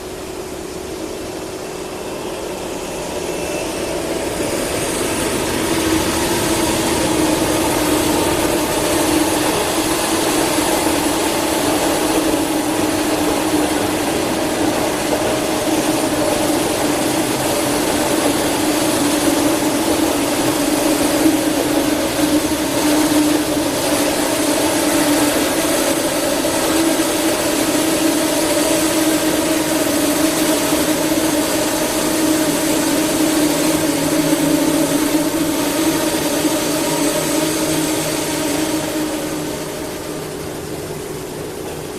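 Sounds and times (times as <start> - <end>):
train rail noise humming: 0.0 - 41.9.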